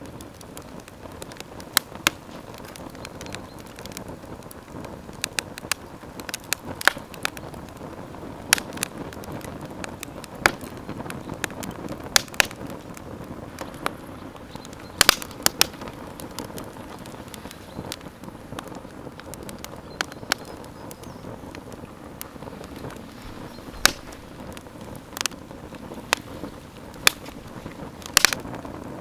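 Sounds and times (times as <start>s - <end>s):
campfire popping: 0.0s - 29.0s
fire hissing: 0.0s - 29.0s.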